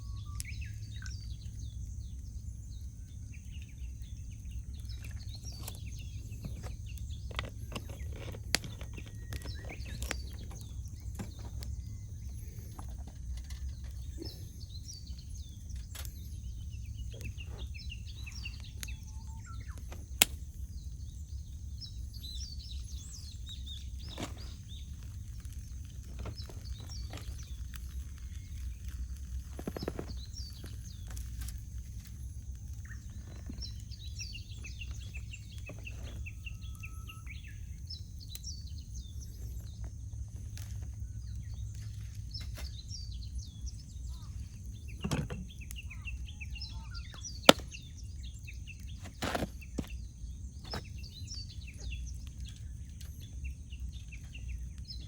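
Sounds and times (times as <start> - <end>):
low steady rumble: 0.0 - 55.0
small birds chirping: 0.0 - 55.0
campfire crackling and popping: 0.2 - 55.0.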